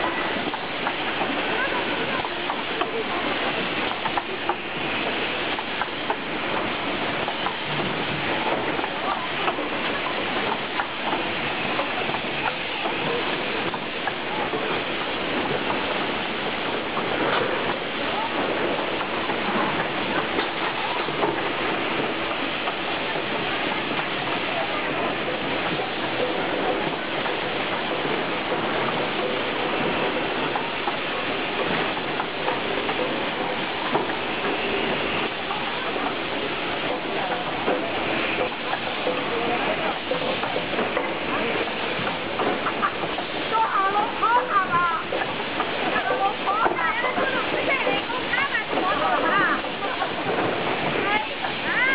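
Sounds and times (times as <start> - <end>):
blow molding machines hissing: 0.0 - 51.9.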